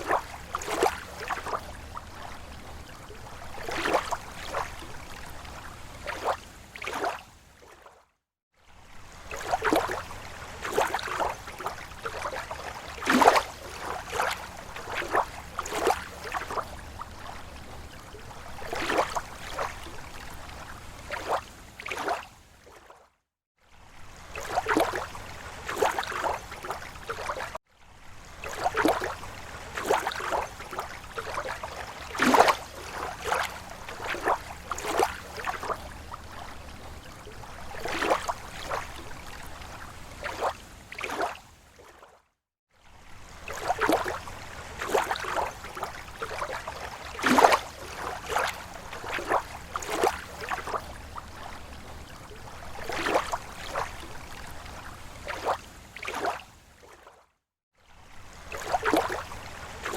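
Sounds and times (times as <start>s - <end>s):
small waves lapping: 0.0s - 59.9s.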